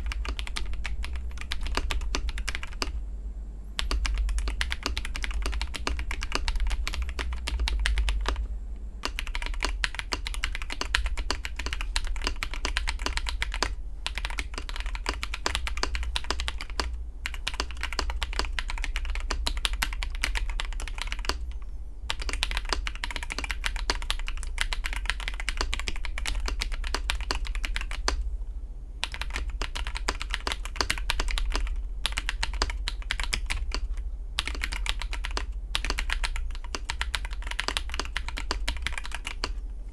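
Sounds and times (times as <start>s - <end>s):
fast mechanical keyboard typing: 0.0s - 3.0s, 3.8s - 28.2s, 29.0s - 39.6s
steady low hum: 0.0s - 39.9s.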